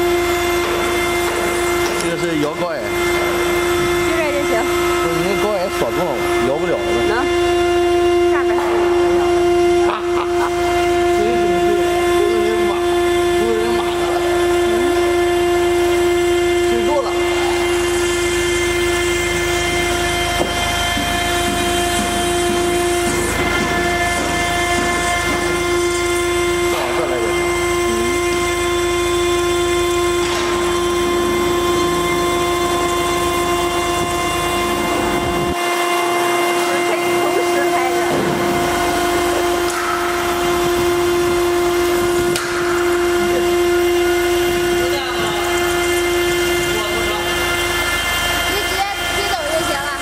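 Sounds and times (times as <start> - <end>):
router spindle whining: 0.0 - 50.0.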